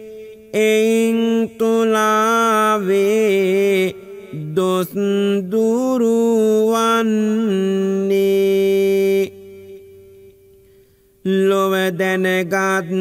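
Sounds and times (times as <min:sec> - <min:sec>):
man chanting: 0:00.0 - 0:10.5, 0:11.2 - 0:13.0.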